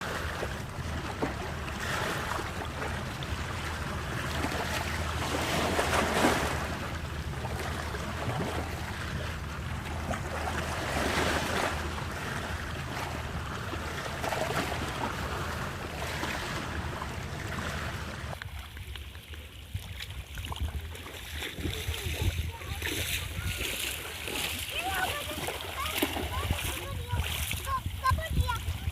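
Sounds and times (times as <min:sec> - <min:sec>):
sea surf washing on beach: 0:00.0 - 0:18.4, 0:20.8 - 0:28.9
wind rumbling on microphone: 0:00.0 - 0:28.9.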